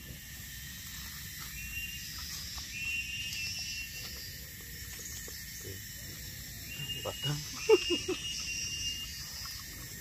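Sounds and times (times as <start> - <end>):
insects droning high-pitched: 0.0 - 10.0.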